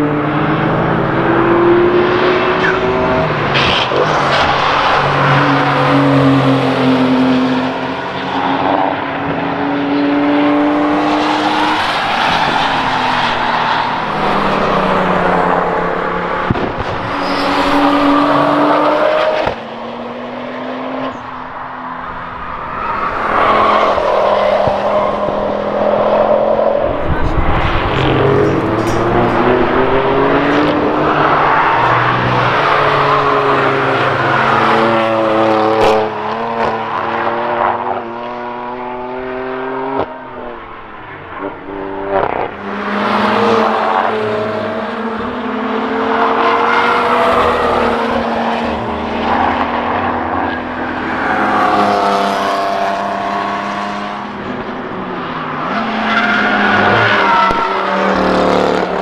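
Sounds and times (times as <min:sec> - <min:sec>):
cars passing at speed: 0:00.0 - 0:59.0.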